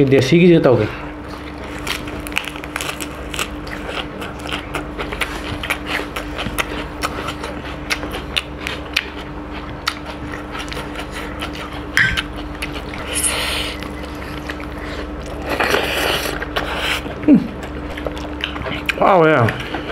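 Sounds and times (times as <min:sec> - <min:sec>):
steady low hum: 0:00.0 - 0:19.9
chewing and crunching food: 0:00.8 - 0:19.9.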